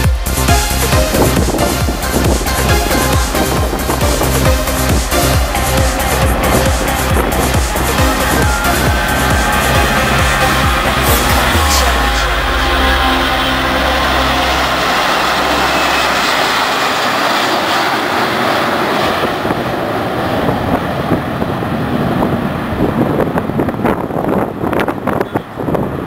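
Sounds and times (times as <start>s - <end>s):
jet airliner passing: 0.0s - 26.0s
wind gusts on microphone: 0.0s - 26.0s.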